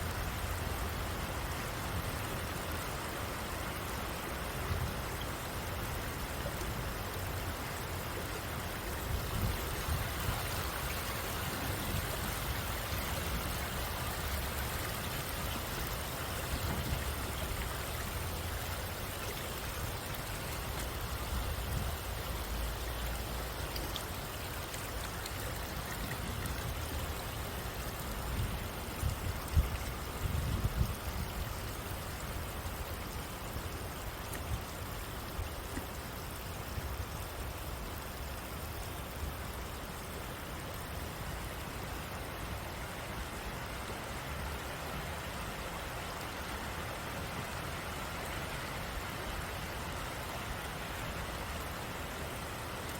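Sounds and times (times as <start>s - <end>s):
stream water flowing: 0.0s - 52.9s.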